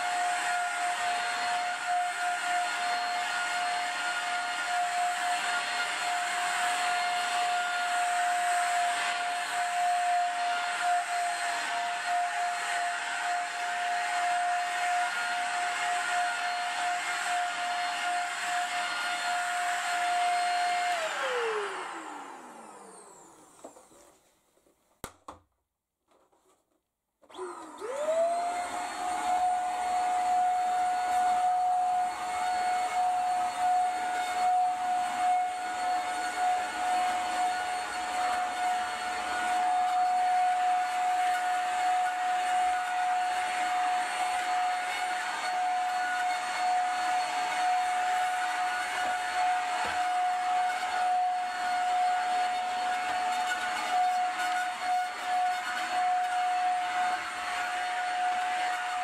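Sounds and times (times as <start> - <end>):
handheld vacuum cleaner whining: 0.0 - 24.4, 27.2 - 59.0.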